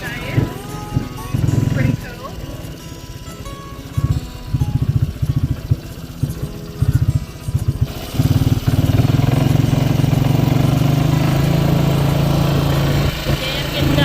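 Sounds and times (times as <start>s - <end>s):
four-wheeler engine chugging: 0.0s - 14.0s.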